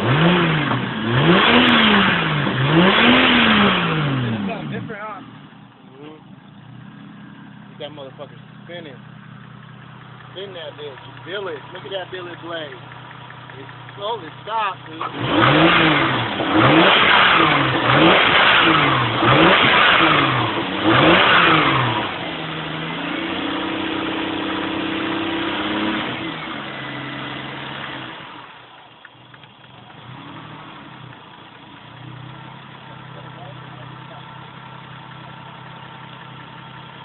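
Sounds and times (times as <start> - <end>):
turbo engine revving and idling: 0.0 - 37.0.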